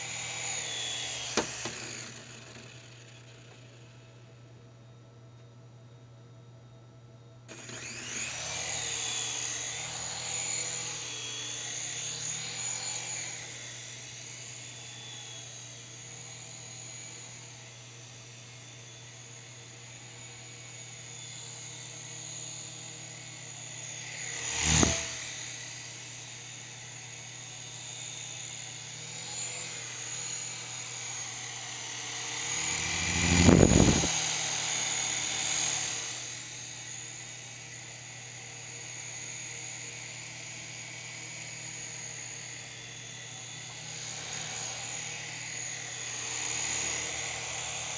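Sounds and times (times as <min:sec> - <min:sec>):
toy helicopter rotors whirring: 0:00.0 - 0:03.8, 0:07.5 - 0:47.9.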